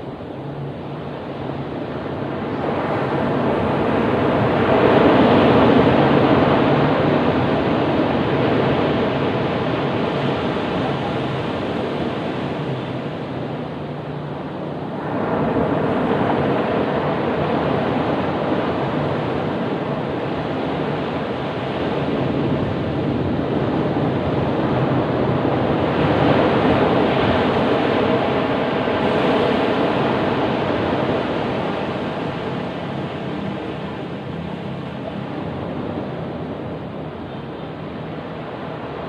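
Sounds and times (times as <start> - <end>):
ocean surf rumbling: 0.0 - 39.0.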